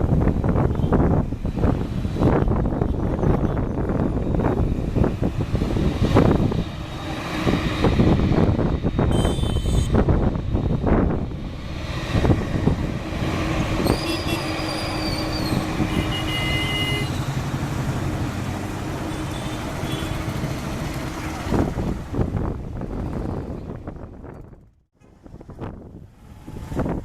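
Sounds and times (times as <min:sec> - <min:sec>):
heavy vehicle engine rumble: 0:00.0 - 0:27.0.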